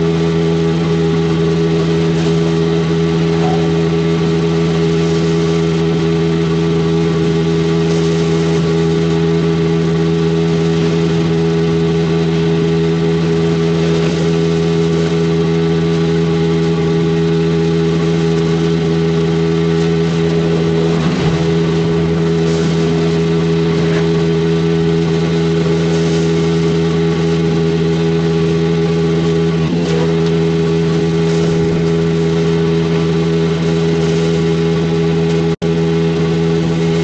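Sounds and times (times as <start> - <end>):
pressure washer engine humming: 0.0 - 37.0.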